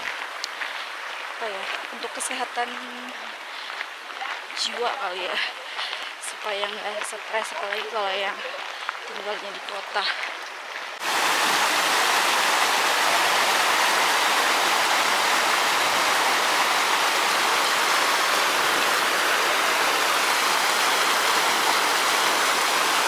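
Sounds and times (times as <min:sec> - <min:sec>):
stream splashing over rocks: 0:00.0 - 0:23.0.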